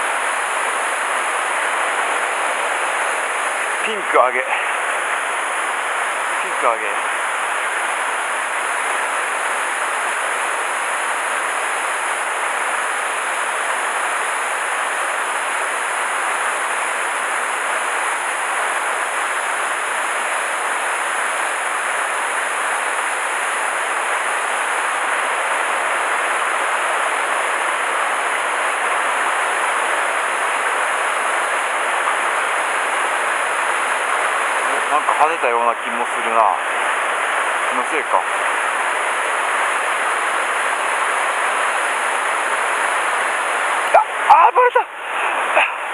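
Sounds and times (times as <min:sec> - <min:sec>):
stream rushing over boulders: 0:00.0 - 0:45.9.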